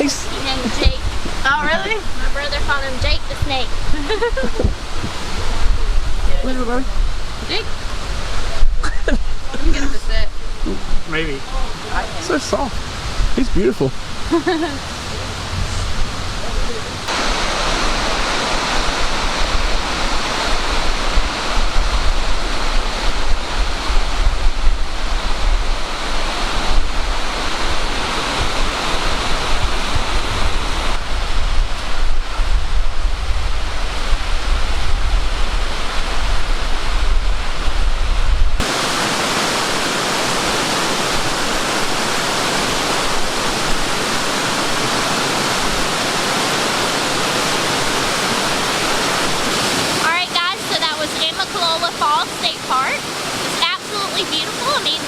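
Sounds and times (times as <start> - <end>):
wind buffeting microphone: 0.0 - 51.4
waterfall rushing: 0.0 - 55.0.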